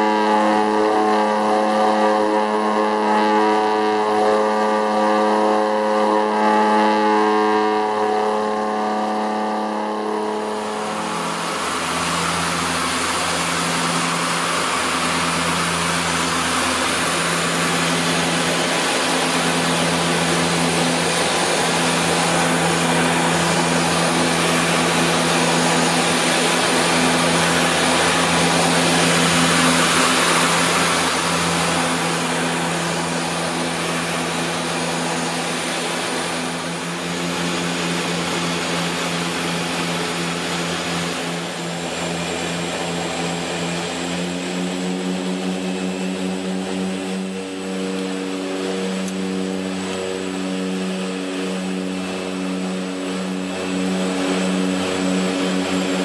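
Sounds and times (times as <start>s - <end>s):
propeller airplane engines droning: 0.0s - 56.0s
loud rushing noise: 10.3s - 56.0s.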